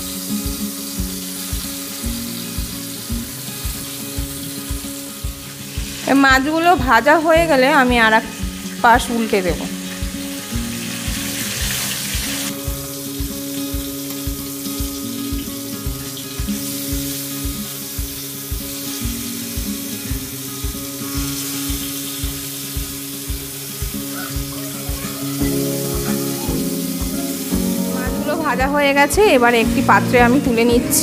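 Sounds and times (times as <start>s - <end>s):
background music with steady beat: 0.0s - 31.0s
fish sizzling in hot oil: 0.0s - 31.0s.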